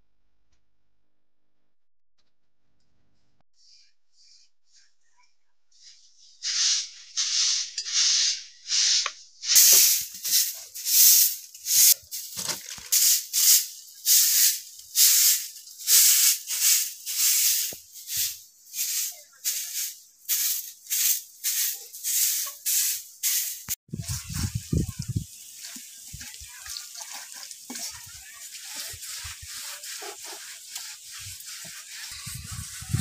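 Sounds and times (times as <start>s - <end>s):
broom sweeping earth floor: 3.6s - 5.0s, 5.7s - 33.0s.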